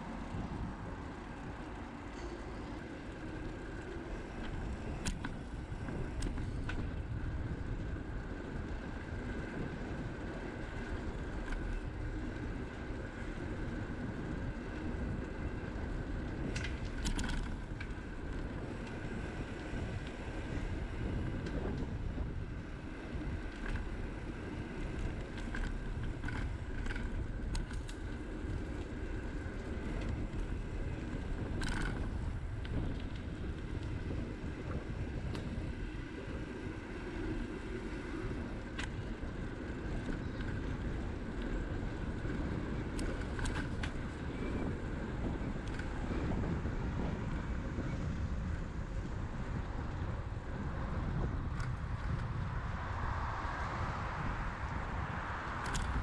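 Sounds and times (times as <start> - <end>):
tyres rolling on asphalt: 0.0 - 56.0
wind noise on microphone: 0.0 - 56.0.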